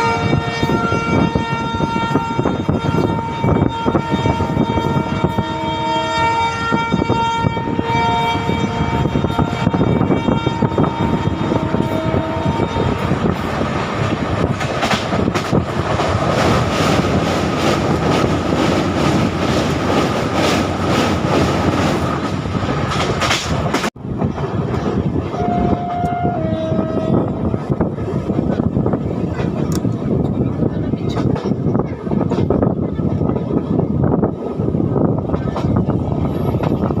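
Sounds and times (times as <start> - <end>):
train coaches rumbling: 0.0 - 37.0.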